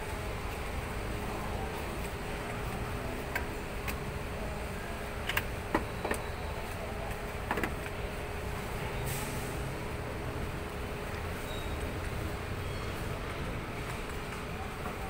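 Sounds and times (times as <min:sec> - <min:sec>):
supermarket background noise: 0:00.0 - 0:15.0.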